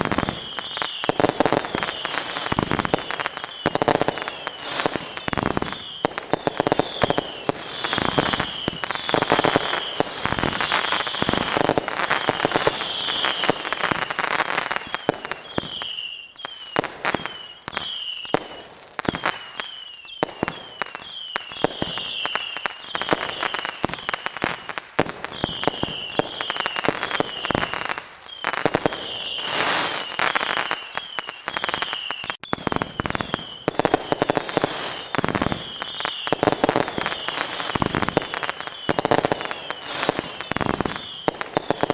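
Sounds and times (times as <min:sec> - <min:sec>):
firework whistles: 0:00.0 - 0:41.9
fireworks bangs and pops: 0:00.0 - 0:41.9.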